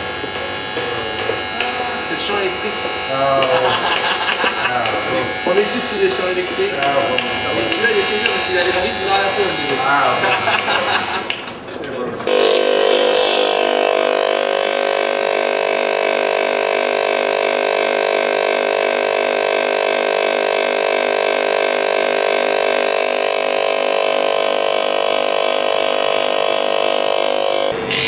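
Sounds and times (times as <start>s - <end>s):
pulsing electric buzz: 0.0s - 28.0s.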